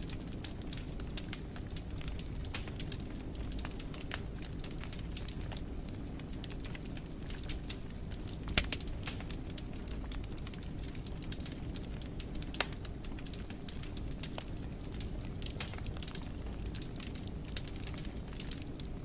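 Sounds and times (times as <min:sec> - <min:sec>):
low rumble of flames: 0:00.0 - 0:19.0
wood fire pops and snaps: 0:00.0 - 0:19.0.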